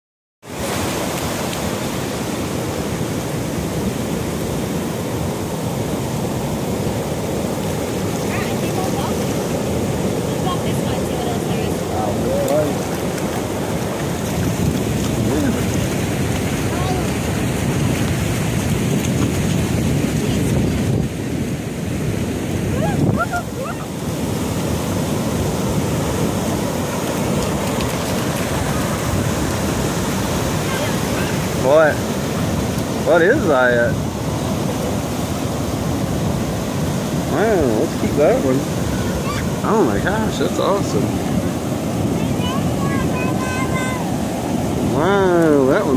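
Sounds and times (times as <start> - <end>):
surf washing up a beach: 0.4 - 45.9
wind blowing over microphone: 0.5 - 45.9.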